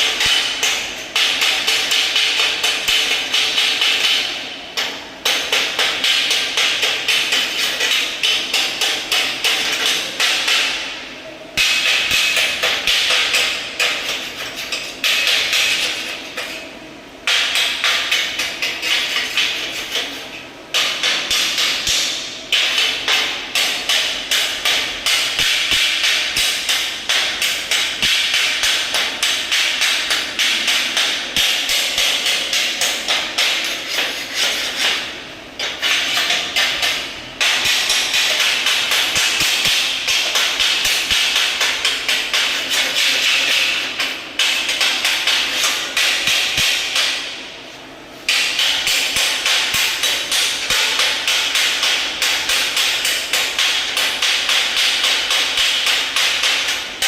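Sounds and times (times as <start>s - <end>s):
hammer striking metal: 0.0s - 11.0s, 11.6s - 47.4s, 48.3s - 57.0s.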